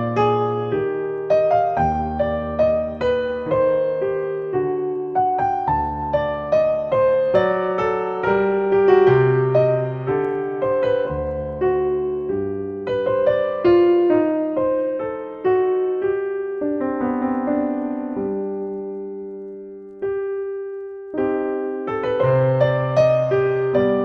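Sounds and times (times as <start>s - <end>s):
solo piano music: 0.0s - 24.0s.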